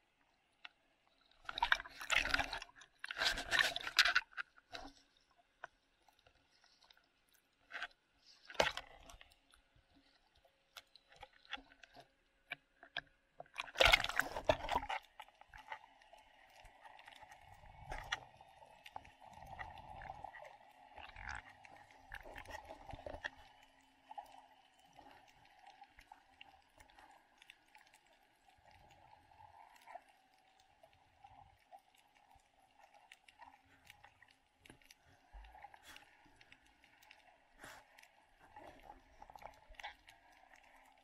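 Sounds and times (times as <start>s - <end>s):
underwater clicks and crackles: 0.0s - 41.0s.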